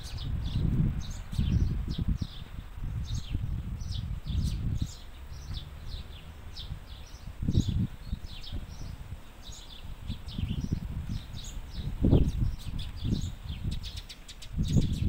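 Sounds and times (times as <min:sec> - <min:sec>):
sparrows chirping: 0:00.0 - 0:15.0
wind on microphone: 0:00.0 - 0:15.0.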